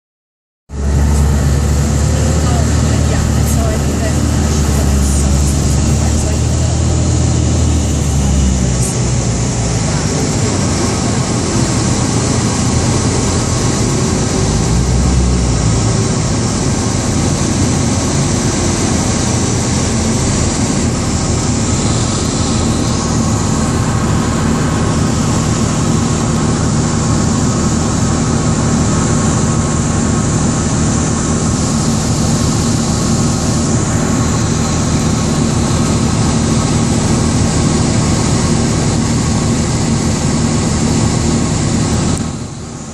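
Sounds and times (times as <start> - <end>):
city traffic rumble: 0.7 - 42.9
low hum: 0.7 - 42.9.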